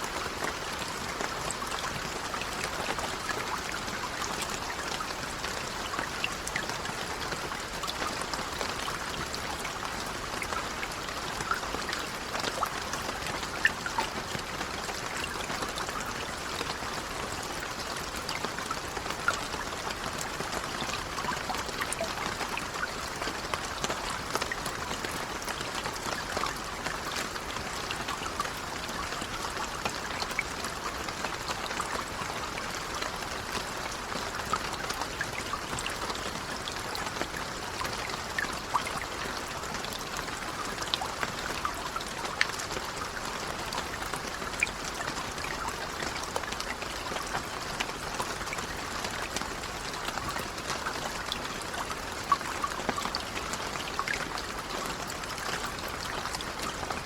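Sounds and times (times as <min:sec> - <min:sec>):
gentle rainfall: 0:00.0 - 0:57.0.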